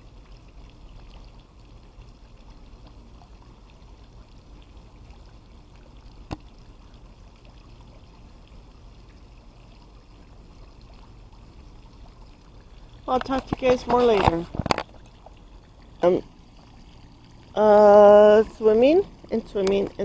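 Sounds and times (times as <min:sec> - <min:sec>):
water trickling and pouring: 0:00.0 - 0:20.0.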